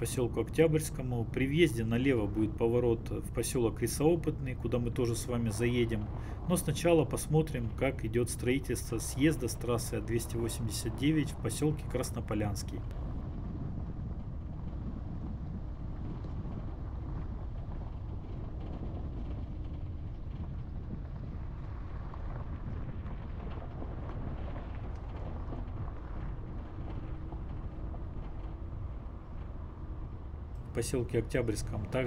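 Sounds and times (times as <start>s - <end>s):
car engine and tyre noise: 0.0s - 32.0s
wind on microphone: 0.0s - 32.0s.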